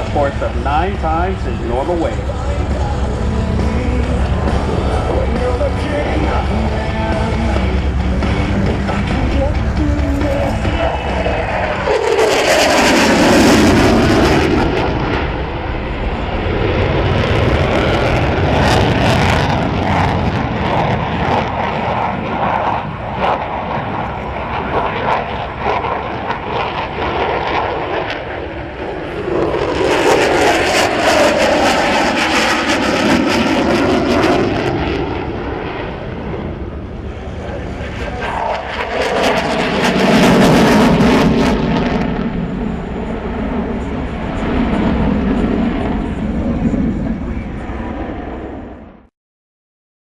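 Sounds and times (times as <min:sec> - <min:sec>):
jet engine roaring: 0:00.0 - 0:49.1.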